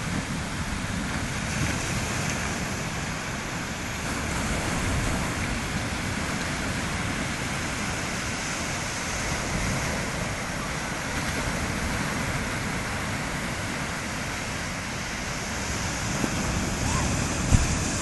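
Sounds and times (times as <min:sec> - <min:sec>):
waves breaking on beach: 0:00.0 - 0:18.0
wind rumble on microphone: 0:00.0 - 0:18.0.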